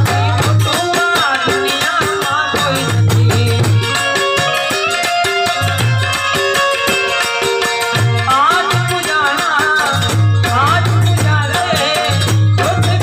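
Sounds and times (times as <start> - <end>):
hand drum and shaker beat: 0.0 - 13.0
held keyboard notes: 0.0 - 13.0.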